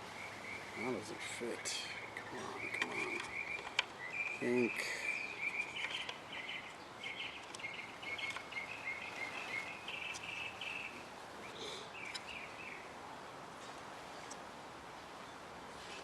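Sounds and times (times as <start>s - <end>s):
faint bird chirping: 0.0s - 14.4s.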